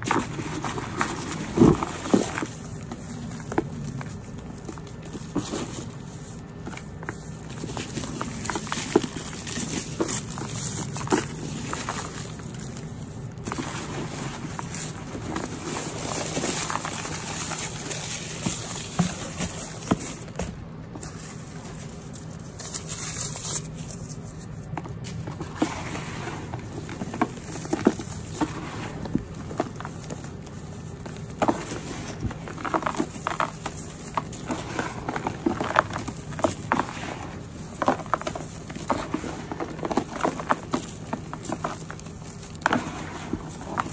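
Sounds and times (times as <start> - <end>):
hands crumbling dusty powder: 0.0 - 43.9.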